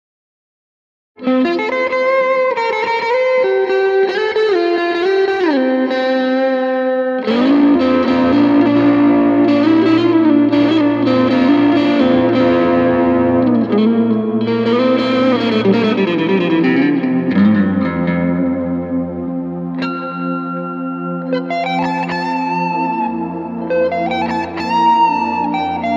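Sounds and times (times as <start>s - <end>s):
electric guitar lead lines: 1.2s - 25.9s.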